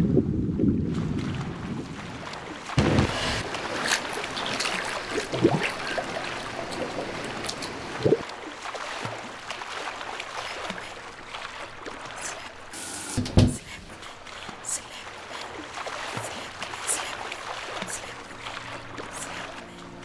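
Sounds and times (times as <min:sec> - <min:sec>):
water gently lapping: 0:00.8 - 0:20.0
pool water splashing: 0:00.9 - 0:20.0.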